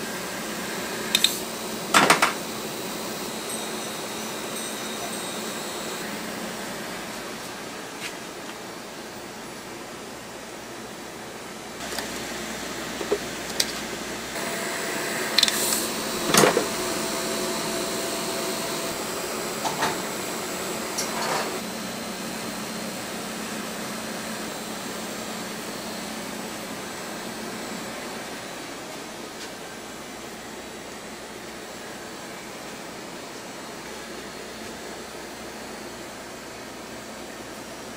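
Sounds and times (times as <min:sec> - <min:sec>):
cotton candy machine whirring: 0:00.0 - 0:08.0, 0:08.8 - 0:37.9.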